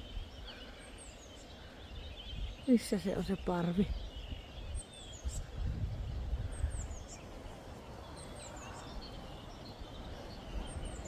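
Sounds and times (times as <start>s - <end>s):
small birds chirping: 0.0s - 11.0s
wind rumble on microphone: 1.4s - 11.0s.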